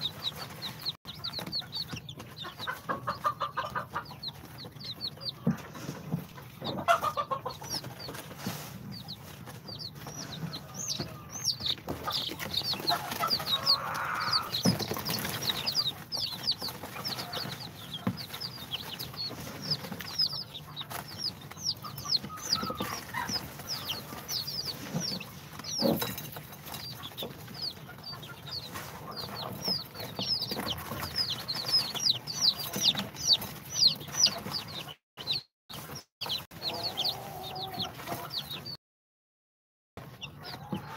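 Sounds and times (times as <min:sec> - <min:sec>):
chicks peeping: 0:00.0 - 0:38.8, 0:40.0 - 0:40.9.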